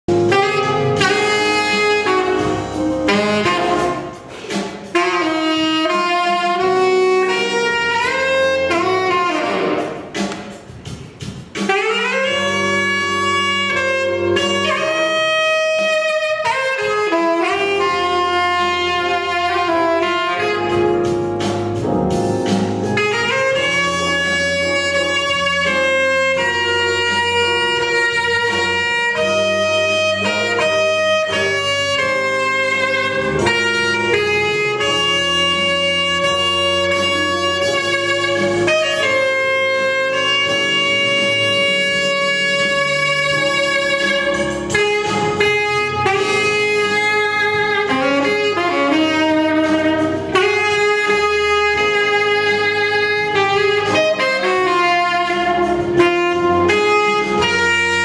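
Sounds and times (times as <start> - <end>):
saxophone melody: 0.0 - 58.0
musical accompaniment: 0.1 - 58.0.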